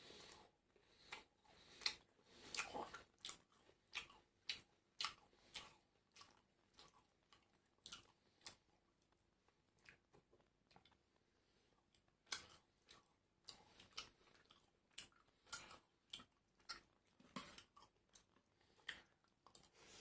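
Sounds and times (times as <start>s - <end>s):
crunchy chewing: 0.1s - 11.0s, 11.8s - 20.0s.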